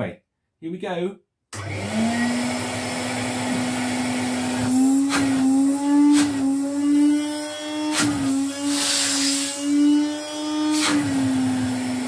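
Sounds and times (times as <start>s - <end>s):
vacuum cleaner motor whine: 1.6s - 12.0s.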